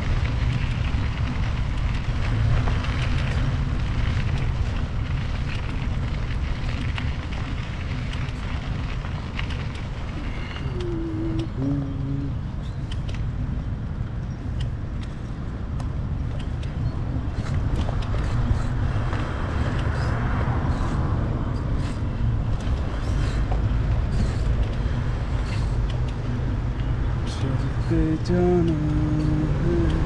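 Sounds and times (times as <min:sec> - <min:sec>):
steady low traffic rumble: 0:00.0 - 0:30.0
vehicle tyre noise passing: 0:00.0 - 0:30.0.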